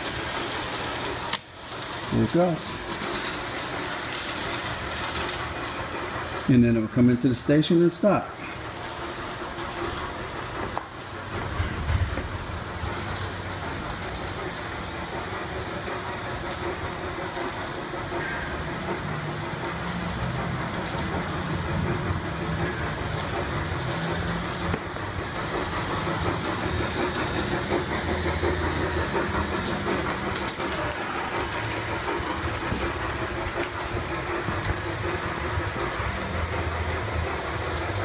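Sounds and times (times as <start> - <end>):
model train wheels on rails: 0.0 - 38.0.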